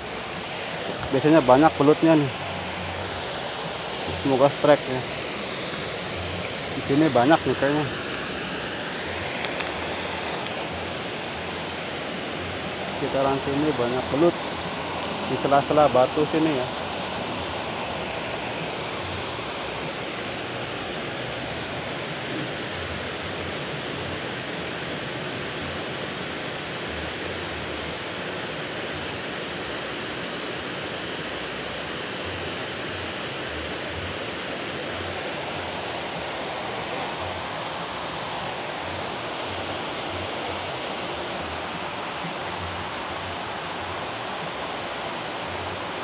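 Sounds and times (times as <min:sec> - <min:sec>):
stream water flowing over rocks: 0:00.0 - 0:46.0.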